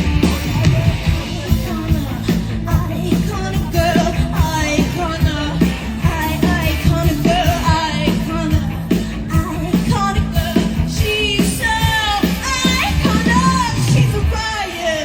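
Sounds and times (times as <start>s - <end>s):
rock band playing: 0.0s - 15.0s
woman singing with vibrato: 0.0s - 15.0s.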